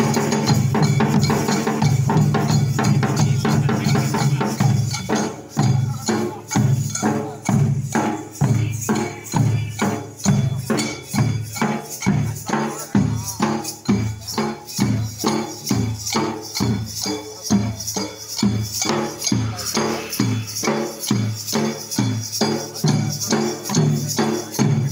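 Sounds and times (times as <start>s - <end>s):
barrel drums beaten with sticks: 0.0s - 24.9s.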